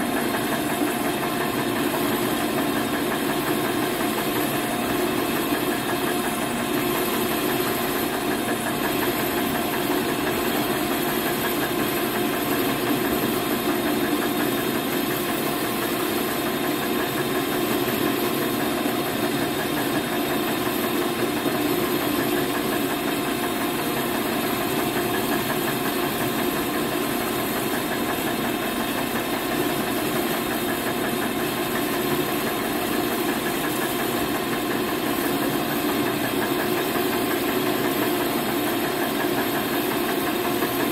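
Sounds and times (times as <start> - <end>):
lathe tool cutting metal: 0.0 - 40.9
metal lathe humming: 0.0 - 40.9.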